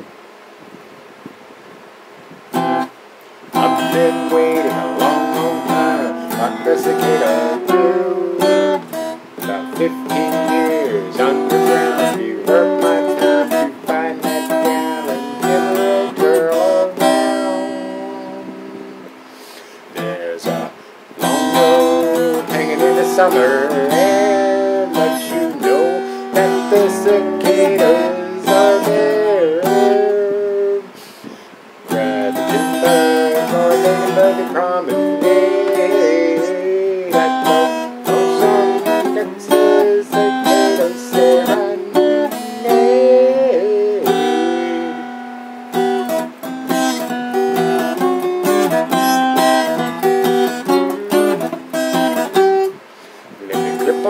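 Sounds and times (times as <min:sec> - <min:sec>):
acoustic guitar strumming: 0:02.5 - 0:54.0.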